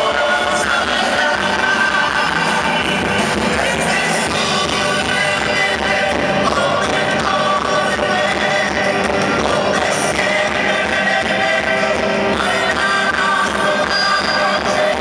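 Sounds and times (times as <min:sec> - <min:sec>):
live dance band: 0:00.0 - 0:15.0
women singing: 0:00.0 - 0:15.0.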